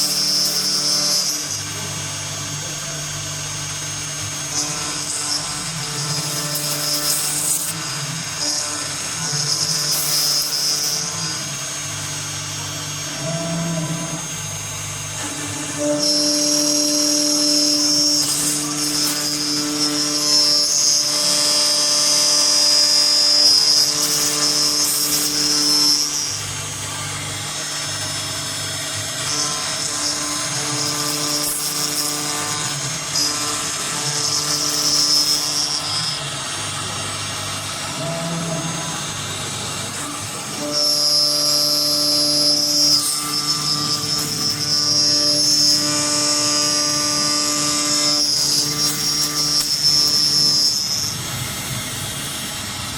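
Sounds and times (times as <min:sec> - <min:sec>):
high spindle whine: 0:00.0 - 0:52.9
rough machine running sound: 0:00.0 - 0:52.9.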